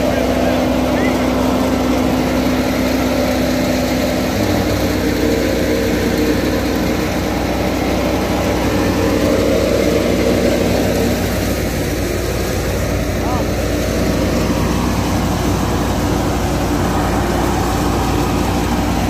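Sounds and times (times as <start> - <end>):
thresher machine drone: 0.0 - 19.0.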